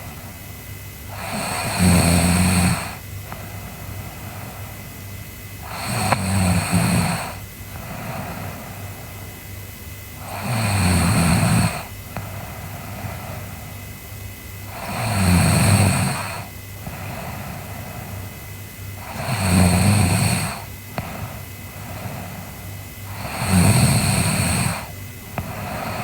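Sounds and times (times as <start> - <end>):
quiet breathing: 0.0 - 26.0
girl snoring: 1.1 - 9.2, 10.2 - 13.8, 14.6 - 18.4, 19.0 - 26.0.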